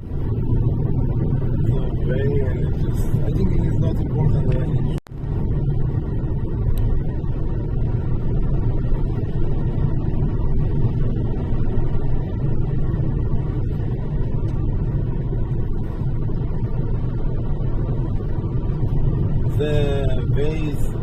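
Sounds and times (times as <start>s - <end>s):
car driving engine and tyre noise: 0.0s - 21.0s.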